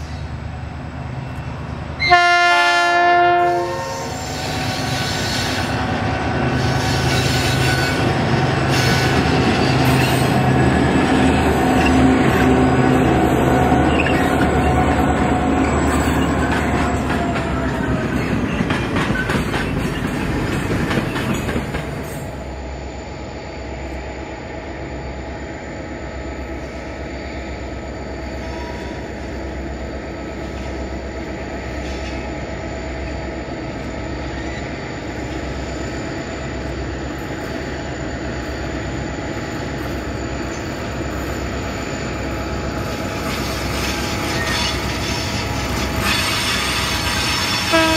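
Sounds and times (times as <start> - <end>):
steel wheels on rail: 0.0 - 22.8, 26.3 - 47.9
diesel locomotive engine drone: 0.0 - 47.9.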